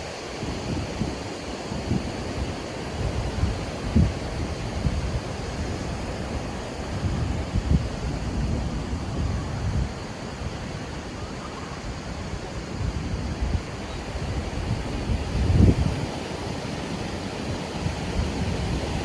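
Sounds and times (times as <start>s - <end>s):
sea waves washing onto beach: 0.0s - 19.0s
wind buffeting microphone: 0.3s - 19.0s.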